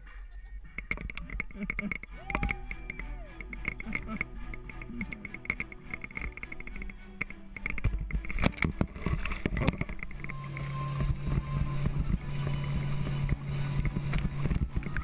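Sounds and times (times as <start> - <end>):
boat engine droning: 0.6 - 15.0
rushing water: 1.0 - 15.0.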